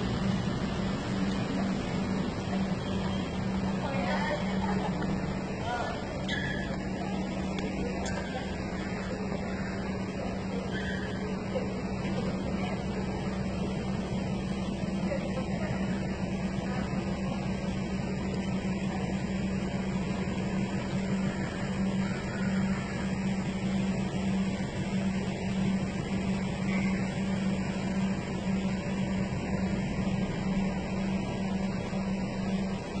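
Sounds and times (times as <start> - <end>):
constant even noise: 0.0 - 33.0
low machine hum: 0.0 - 33.0.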